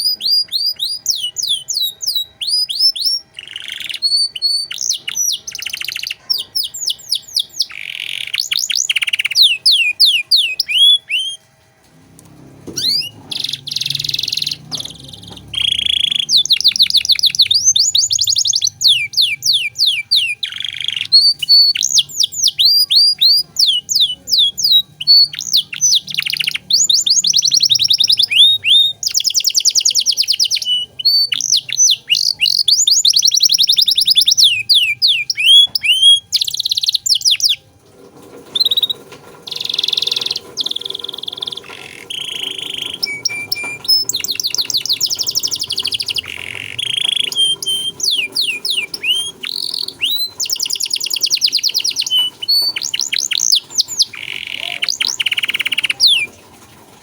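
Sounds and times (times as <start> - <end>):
canary singing: 0.0 - 11.5, 12.2 - 56.4.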